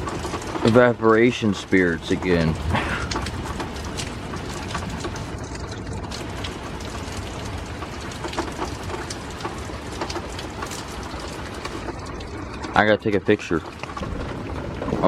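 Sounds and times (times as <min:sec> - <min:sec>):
rainwater dripping: 0:00.0 - 0:15.0.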